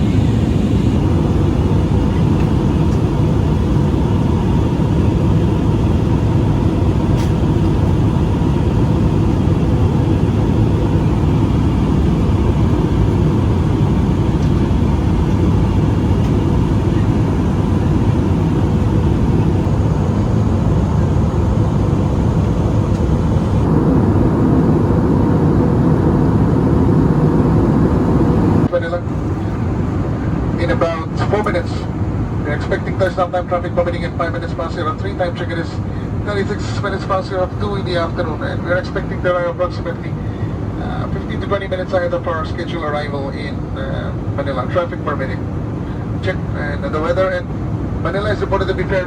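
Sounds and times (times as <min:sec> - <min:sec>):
aircraft cabin engine drone: 0:00.0 - 0:49.0.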